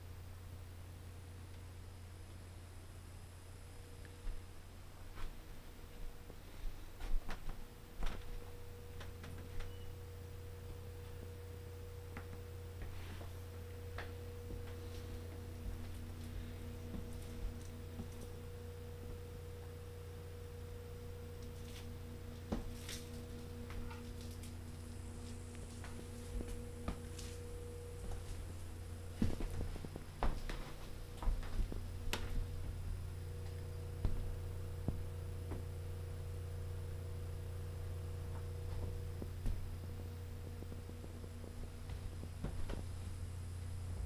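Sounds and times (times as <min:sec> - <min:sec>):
faint steady tone: 0:00.0 - 0:44.0
steady low hum: 0:00.0 - 0:44.0.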